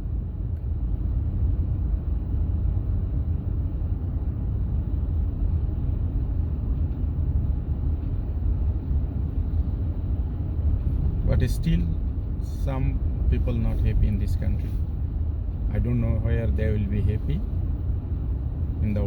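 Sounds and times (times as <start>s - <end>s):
vehicle road rumble: 0.0s - 19.0s.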